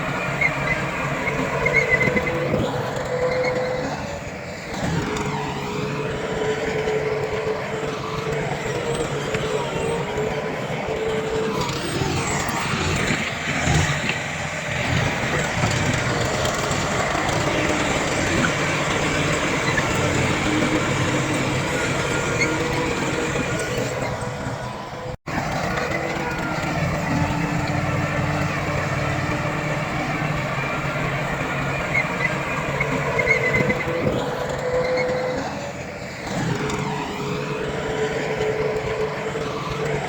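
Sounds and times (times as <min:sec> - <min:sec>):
heavy diesel machinery engines: 0:00.0 - 0:40.0.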